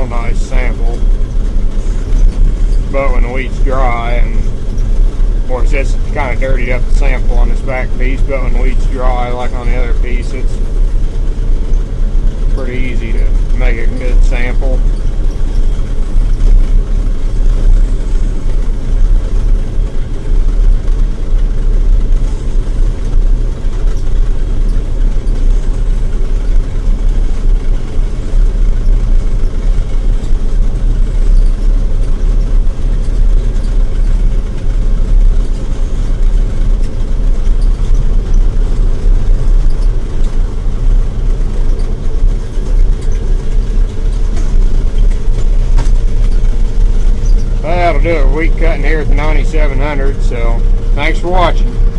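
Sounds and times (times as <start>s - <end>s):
combine harvester drone: 0.0s - 51.9s.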